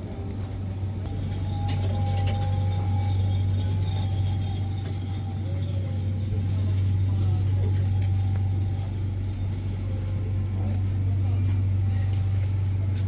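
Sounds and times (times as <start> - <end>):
refrigerated display cases humming: 0.0 - 13.0.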